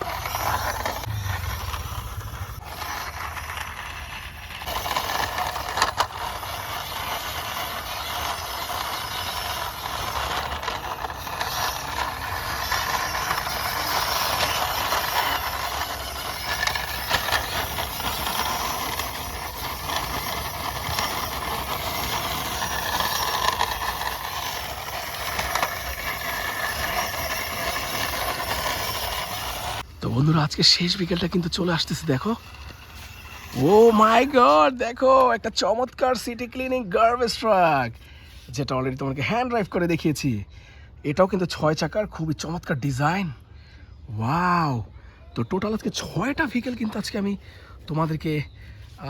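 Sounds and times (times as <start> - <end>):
toy truck wheels rolling and rattling: 0.0 - 40.2, 45.4 - 49.0.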